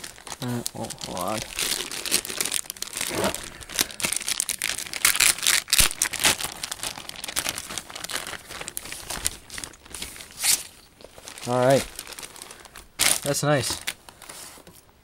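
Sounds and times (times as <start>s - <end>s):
plastic wrapping crinkling: 0.0s - 14.9s.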